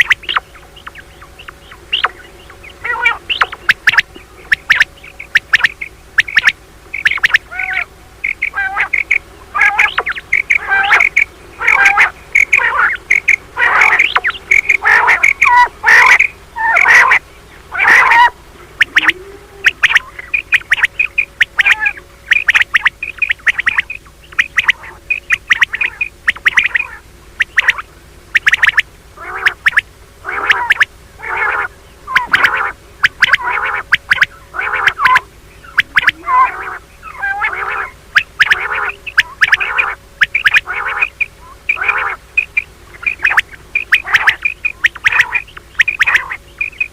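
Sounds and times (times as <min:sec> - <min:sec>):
quail mating call: 0:00.0 - 0:46.9.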